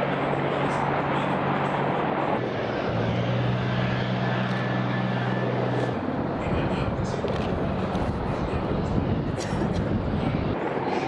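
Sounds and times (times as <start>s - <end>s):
rotor rushing: 0.0s - 9.4s
helicopter engine hum: 0.0s - 11.0s
wind noise: 0.0s - 11.0s.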